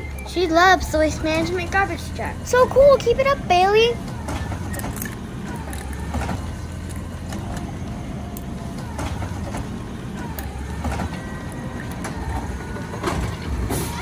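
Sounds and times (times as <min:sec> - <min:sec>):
garbage truck engine rumbling: 0:00.0 - 0:14.0.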